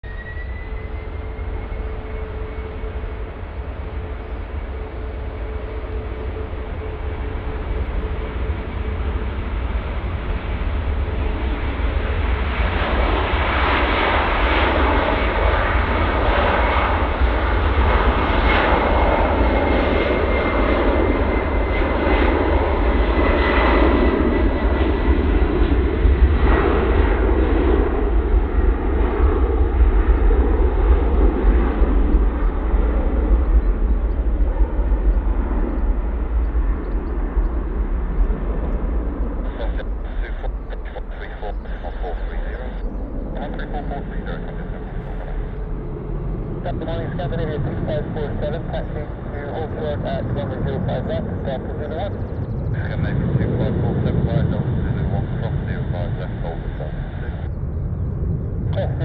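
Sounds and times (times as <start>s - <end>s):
heavy rumble and rush: 0.0s - 59.0s
high jet whine: 0.0s - 59.0s
jet engines: 0.0s - 59.0s.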